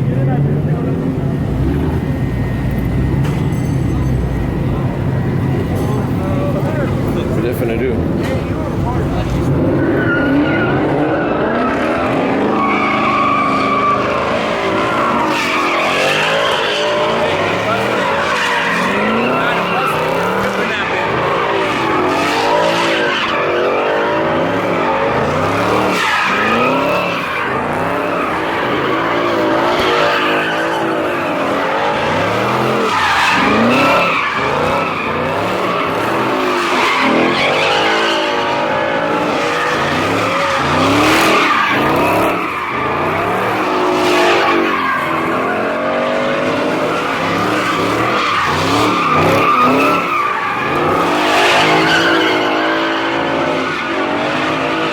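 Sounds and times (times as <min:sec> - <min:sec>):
car engine revving: 0:00.0 - 0:54.9
tyres screeching: 0:01.0 - 0:54.9.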